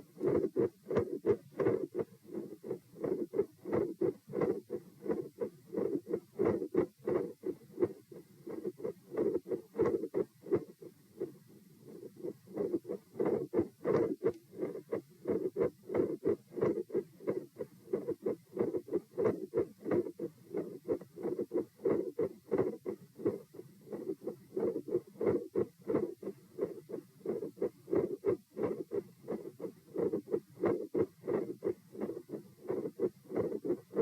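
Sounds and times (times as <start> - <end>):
heartbeat through stethoscope: 0.0 - 34.0.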